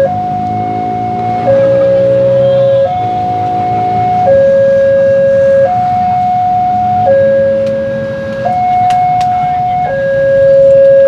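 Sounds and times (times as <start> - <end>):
level crossing two-tone alarm: 0.0 - 11.0
low traffic rumble: 0.0 - 11.0.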